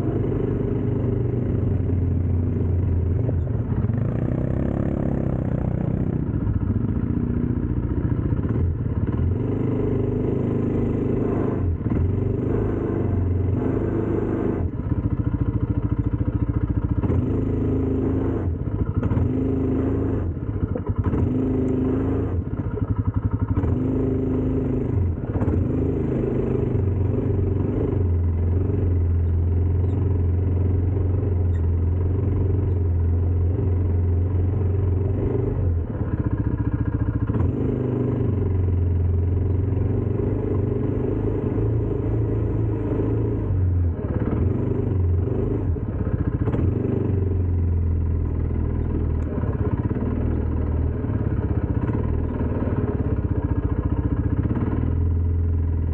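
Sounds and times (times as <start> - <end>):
atv engine droning: 0.0 - 55.9.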